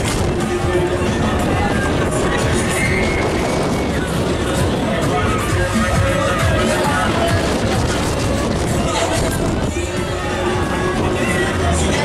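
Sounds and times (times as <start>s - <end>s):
loud fairground music: 0.0s - 12.0s.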